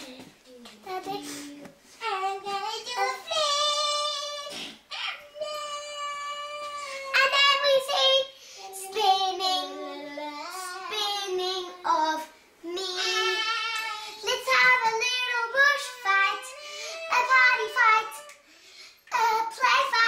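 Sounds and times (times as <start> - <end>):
girl singing wordless tune: 0.0 - 20.0.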